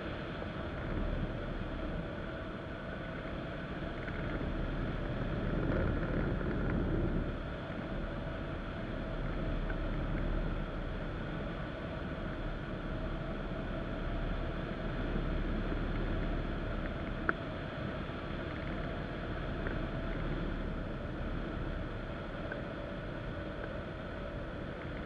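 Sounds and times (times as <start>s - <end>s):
wind rushing on microphone: 0.0s - 25.0s.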